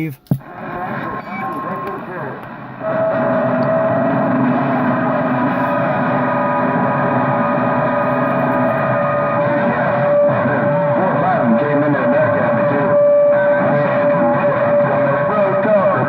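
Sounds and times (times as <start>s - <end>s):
radio band noise hiss: 0.0s - 16.0s
radio whistling tones: 0.0s - 16.0s.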